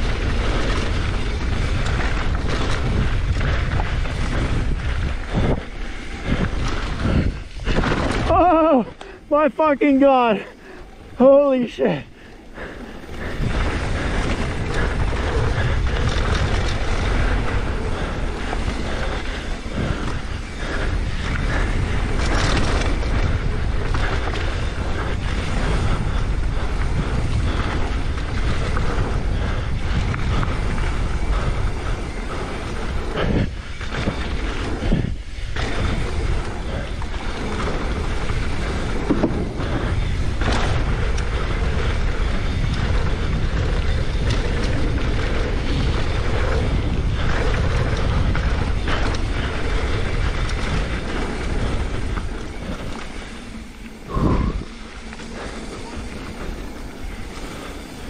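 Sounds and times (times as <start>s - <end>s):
bike rattling and knocking: 0.0s - 10.4s, 11.0s - 58.0s
tyres rolling over dirt and rock: 0.0s - 12.1s, 12.8s - 58.0s
wind buffeting microphone: 0.0s - 58.0s.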